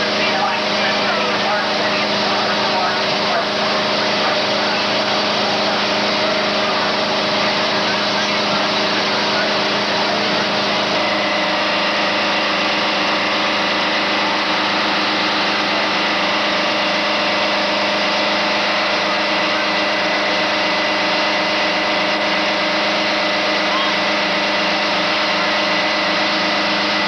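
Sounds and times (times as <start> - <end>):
fire engine droning: 0.0 - 27.0.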